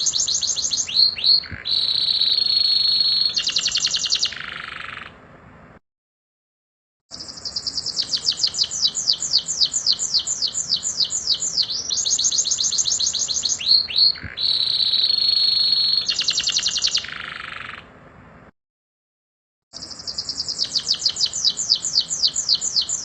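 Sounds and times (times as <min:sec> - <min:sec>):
canary singing: 0:00.0 - 0:05.2, 0:07.1 - 0:17.9, 0:19.8 - 0:23.0.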